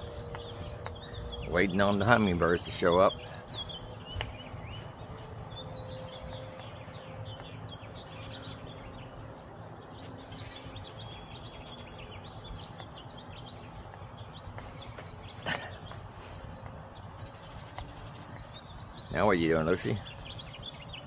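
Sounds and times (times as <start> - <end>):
birds chirping and singing: 0.0 - 21.0.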